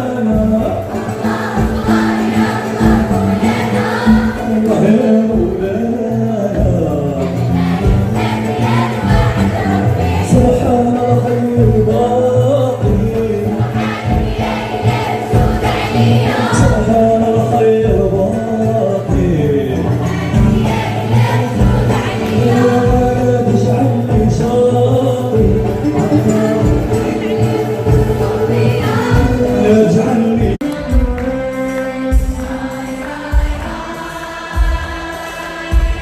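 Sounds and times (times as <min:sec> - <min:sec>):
choir singing: 0:00.0 - 0:05.9, 0:06.5 - 0:36.0
instrumental accompaniment with beat: 0:00.0 - 0:36.0.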